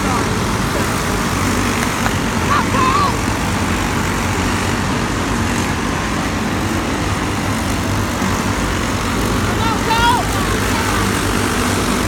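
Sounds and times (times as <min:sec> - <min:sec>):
go-kart engines racing: 0:00.0 - 0:12.0.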